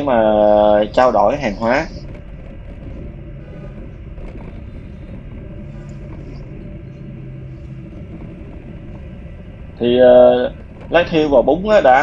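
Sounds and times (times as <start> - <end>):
motorbike engine rumble: 0.0 - 12.0
road noise: 0.0 - 12.0.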